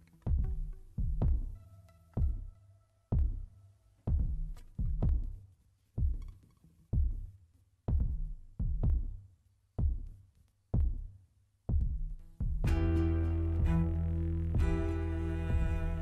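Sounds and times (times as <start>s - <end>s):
slow deep drum beat: 0.3s - 1.6s, 2.2s - 5.4s, 6.0s - 6.4s, 7.0s - 16.0s.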